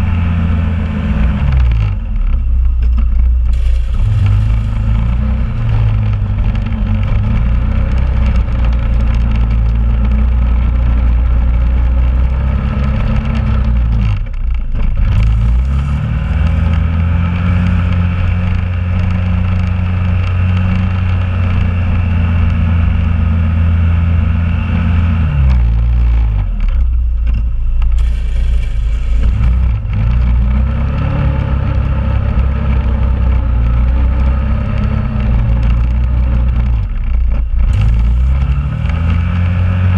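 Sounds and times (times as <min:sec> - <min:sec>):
atv engine plowing snow: 0:00.0 - 0:39.9.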